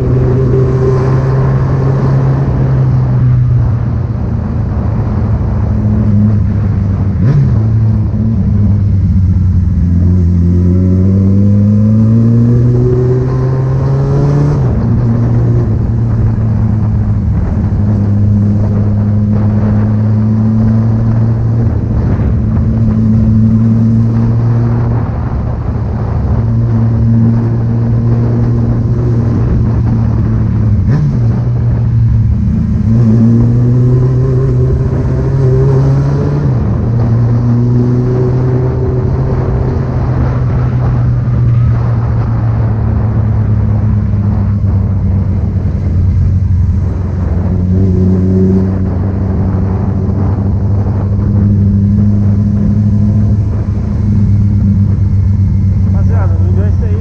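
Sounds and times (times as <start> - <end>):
vehicle engine accelerating: 0.0 - 57.0.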